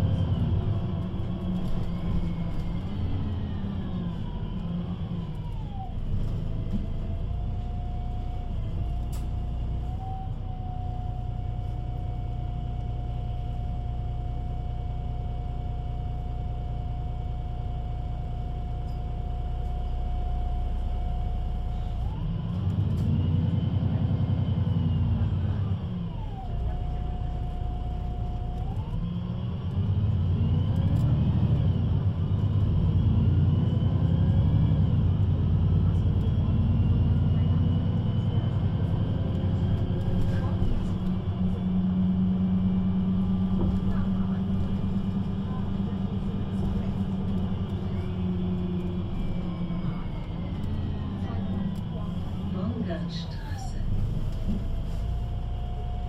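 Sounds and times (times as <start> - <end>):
bus engine idling and revving: 0.0 - 56.0.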